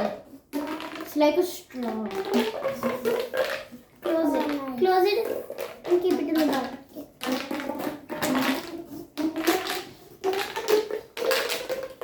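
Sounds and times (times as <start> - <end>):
plastic pop tube clicking: 0.0 - 1.2, 1.8 - 12.0.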